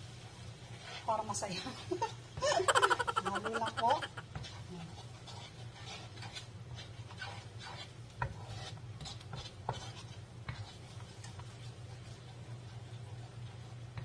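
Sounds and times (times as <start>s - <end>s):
spatula scraping a wok: 0.0s - 14.0s.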